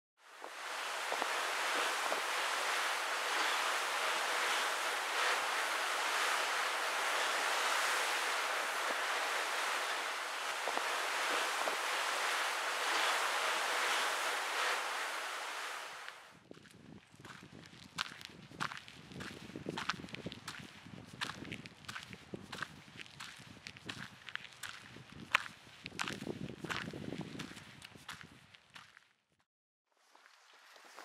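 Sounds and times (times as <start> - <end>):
wind over choppy water: 0.2 - 28.5.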